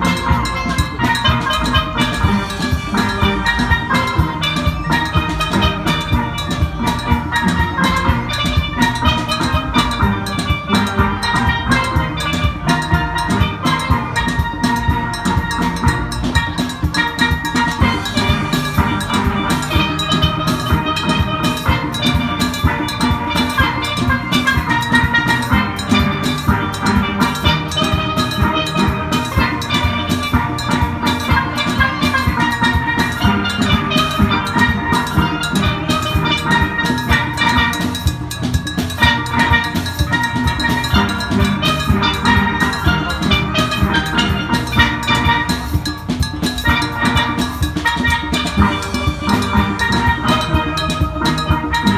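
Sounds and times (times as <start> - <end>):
steady drum beat: 0.0 - 51.9
steelpans playing melody: 0.0 - 51.9.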